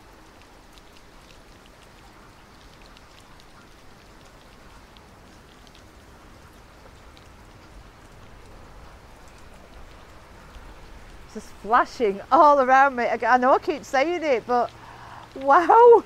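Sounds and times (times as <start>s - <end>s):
raindrops splashing close by: 0.0s - 16.0s
steady rain falling: 0.0s - 16.0s.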